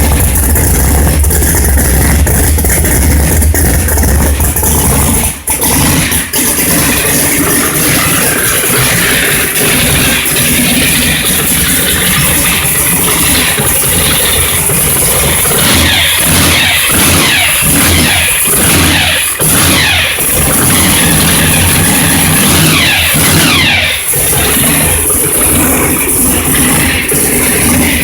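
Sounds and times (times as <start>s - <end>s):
loud engine revving: 0.0s - 28.0s.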